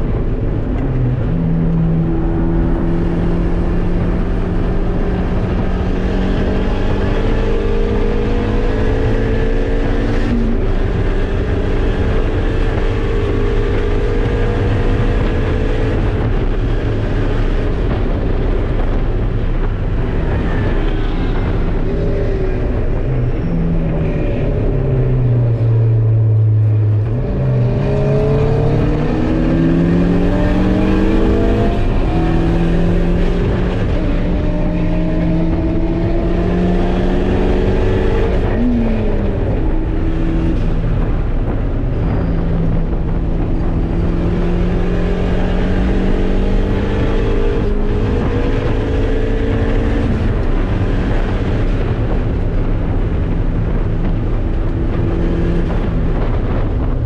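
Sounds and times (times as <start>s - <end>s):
race car engine revving: 0.0s - 57.0s
road and wind noise: 0.0s - 57.0s.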